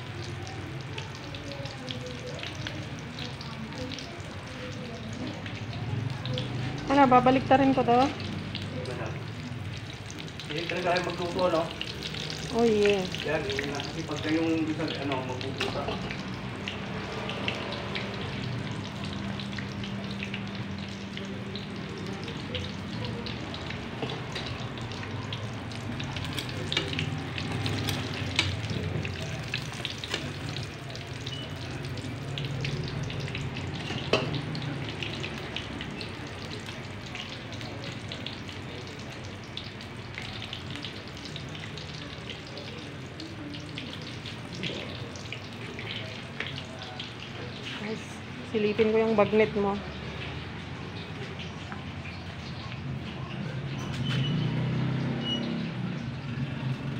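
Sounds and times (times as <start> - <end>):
food deep-frying in hot oil: 0.0 - 56.9.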